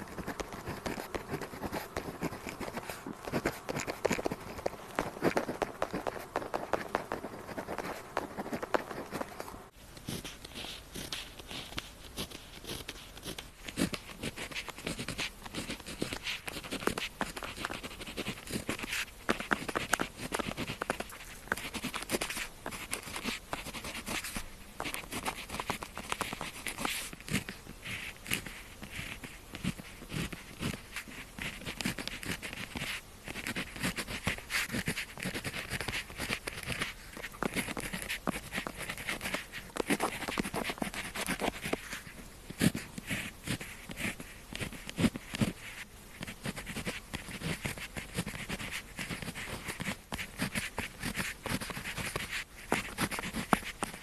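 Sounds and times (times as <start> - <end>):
pen scratching on paper: 0.0 - 54.0.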